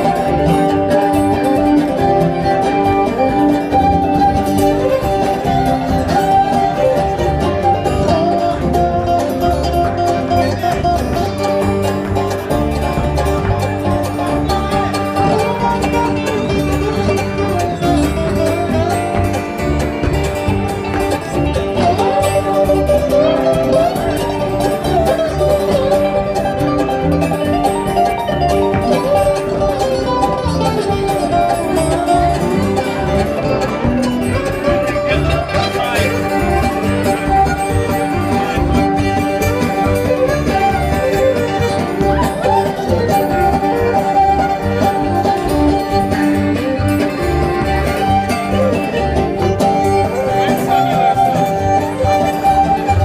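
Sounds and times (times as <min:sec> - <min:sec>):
acoustic guitar: 0:00.0 - 0:53.0
banjo: 0:00.0 - 0:53.0
fiddle: 0:00.0 - 0:53.0
lap steel guitar sliding notes: 0:00.0 - 0:53.0
upright bass: 0:00.0 - 0:53.0.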